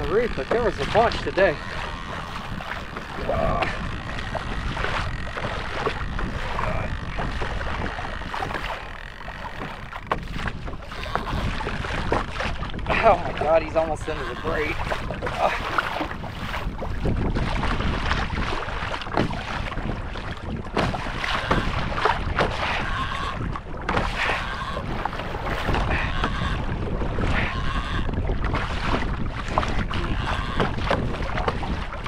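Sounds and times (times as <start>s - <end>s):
waves slapping against kayak hull: 0.0s - 32.0s
wind buffeting microphone: 0.0s - 32.0s.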